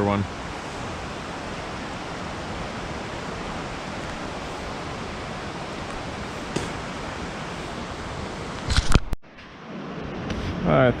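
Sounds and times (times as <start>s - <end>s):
creek water rushing: 0.0s - 9.0s.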